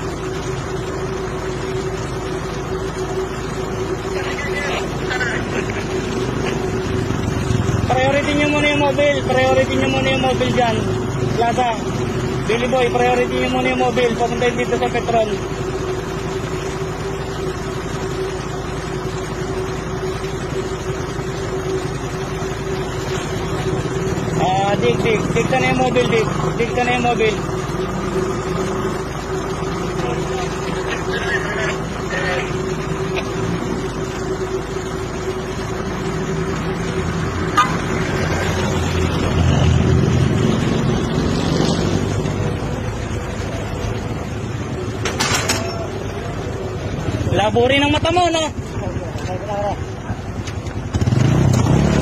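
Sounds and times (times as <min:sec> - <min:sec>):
street traffic: 0:00.0 - 0:52.0
truck engine idling: 0:00.0 - 0:52.0.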